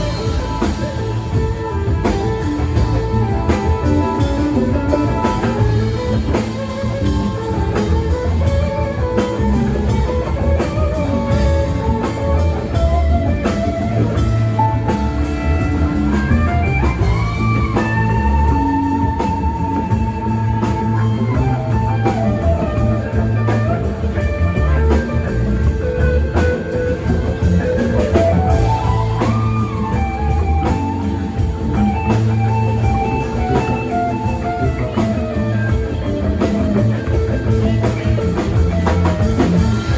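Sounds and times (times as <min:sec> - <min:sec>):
bass guitar: 0:00.0 - 0:39.9
drum kit: 0:00.0 - 0:39.9
electric guitar lead: 0:00.0 - 0:39.9.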